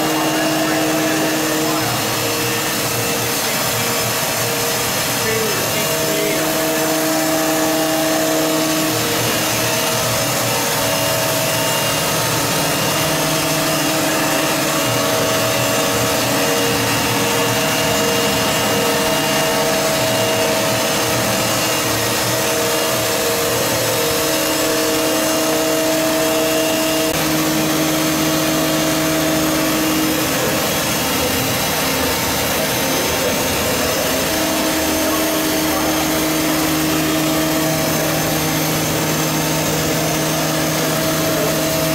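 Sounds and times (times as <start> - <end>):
humming tones: 0.0 - 41.9
machining center whirring: 0.0 - 41.9.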